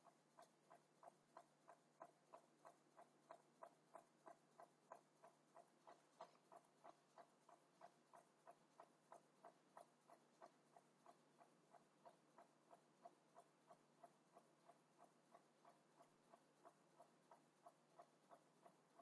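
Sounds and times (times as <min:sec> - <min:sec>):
faint even ticking: 0:00.0 - 0:19.0.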